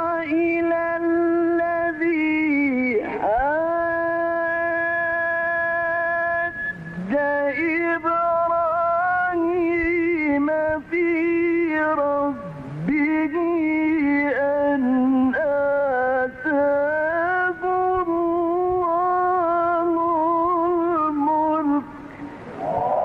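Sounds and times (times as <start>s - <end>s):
man chanting melodically: 0.0s - 23.0s.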